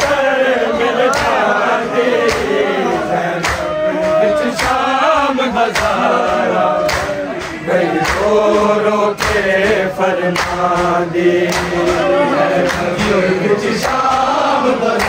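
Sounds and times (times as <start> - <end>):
men chanting in unison: 0.0 - 15.0
rhythmic chest-beating: 0.0 - 15.0.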